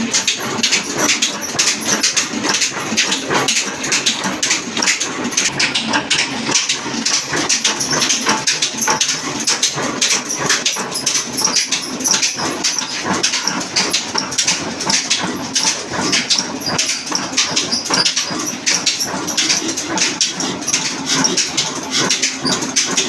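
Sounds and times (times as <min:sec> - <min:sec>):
diesel engine clattering: 0:00.0 - 0:23.0.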